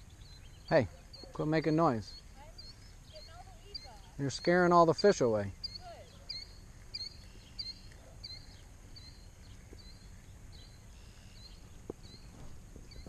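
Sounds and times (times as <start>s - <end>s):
bird chirping: 0.0s - 13.0s
outdoor background noise: 0.0s - 13.0s.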